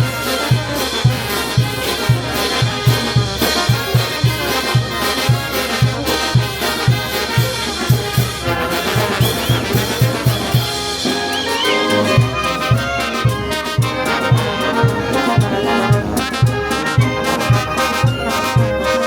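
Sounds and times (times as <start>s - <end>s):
bass drum beat: 0.0s - 19.0s
trumpets and trombones: 0.0s - 19.0s.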